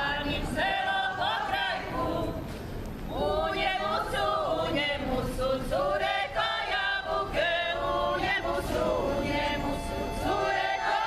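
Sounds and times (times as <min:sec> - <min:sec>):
choir singing: 0:00.0 - 0:02.5, 0:03.1 - 0:11.0.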